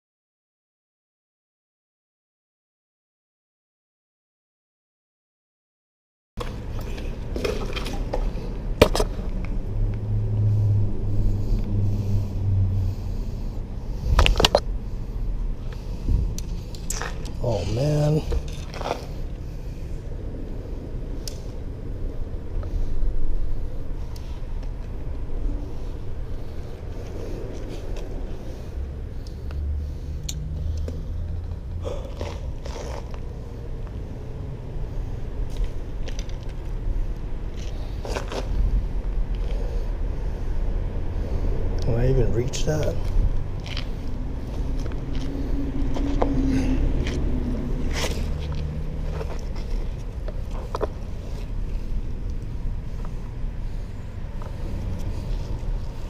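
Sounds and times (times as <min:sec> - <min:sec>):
traffic rumble on bridge: 0:06.4 - 0:56.0
vehicle crossing drone: 0:06.4 - 0:56.0.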